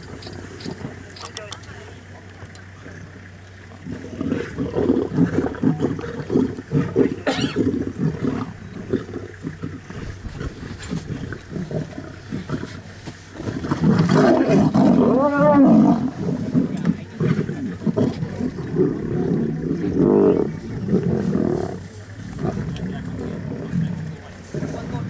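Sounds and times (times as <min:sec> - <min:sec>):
lions growling and snarling: 0:00.0 - 0:25.0.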